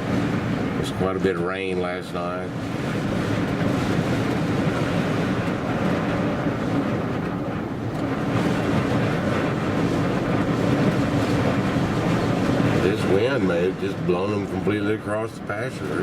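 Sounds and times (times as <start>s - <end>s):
strong gusting wind roaring: 0.0s - 16.0s.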